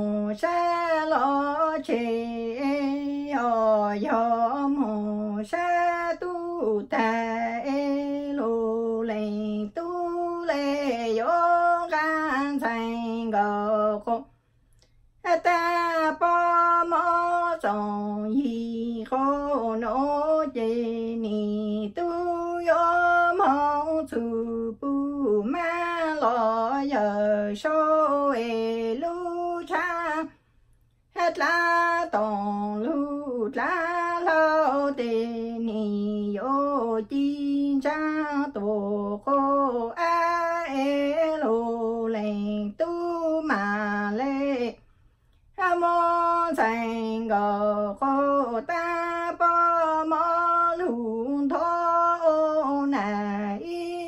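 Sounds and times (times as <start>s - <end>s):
woman singing unaccompanied: 0.0s - 14.4s, 15.2s - 30.4s, 31.0s - 44.9s, 45.5s - 54.0s.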